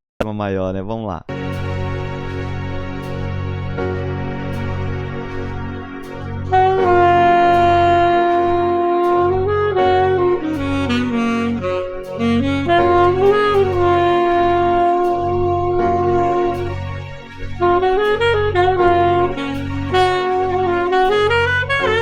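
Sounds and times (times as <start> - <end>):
jazz backing track: 1.3 - 22.0
saxophone playing: 1.3 - 22.0.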